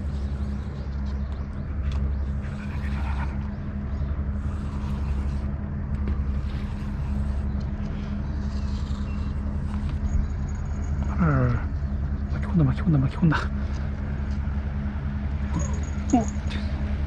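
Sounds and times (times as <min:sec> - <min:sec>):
motor running steadily: 0:00.0 - 0:17.0.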